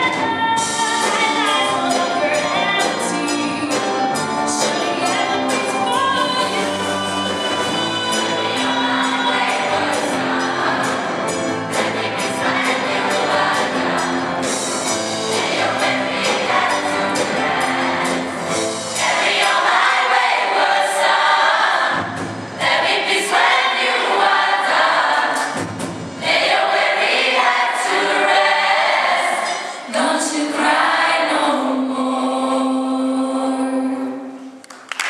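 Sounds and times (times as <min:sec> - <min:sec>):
gospel choir singing: 0:00.6 - 0:34.6.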